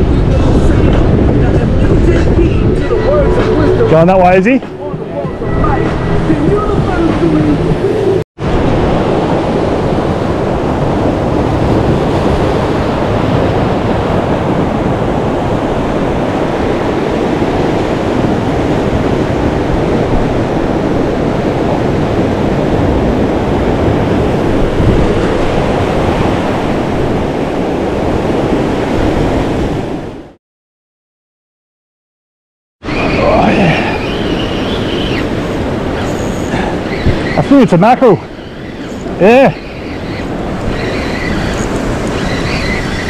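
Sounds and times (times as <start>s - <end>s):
ocean surf breaking on rocks: 0.0s - 30.4s, 32.9s - 43.0s.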